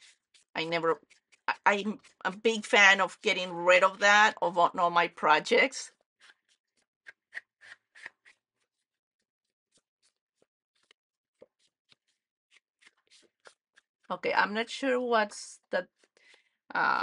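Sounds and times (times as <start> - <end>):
ink pad scraping on paper: 0.0 - 4.2, 5.3 - 15.0.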